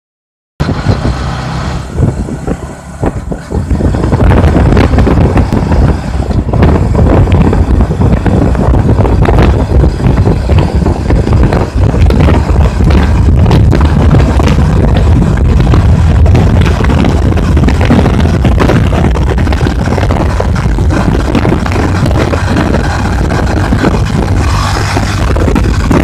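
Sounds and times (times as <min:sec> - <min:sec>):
motorcycle engine at full throttle: 0:00.6 - 0:26.0
wind rush: 0:00.6 - 0:26.0.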